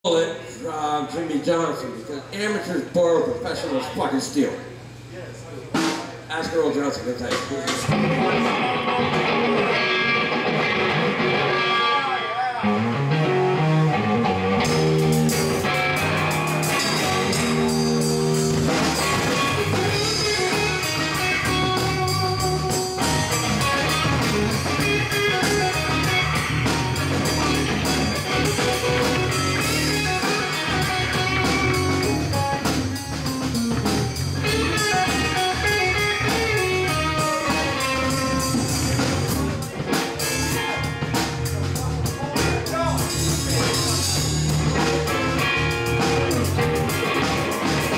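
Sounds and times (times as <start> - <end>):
live blues band: 5.7 - 47.9.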